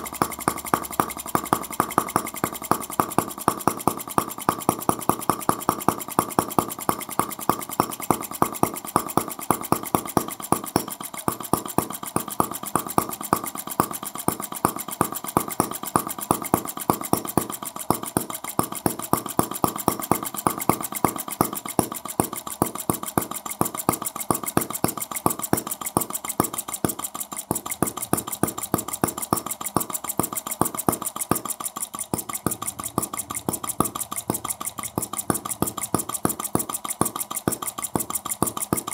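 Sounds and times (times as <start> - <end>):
light mechanical clatter: 0.0 - 38.9
single-cylinder engine popping: 0.0 - 38.9.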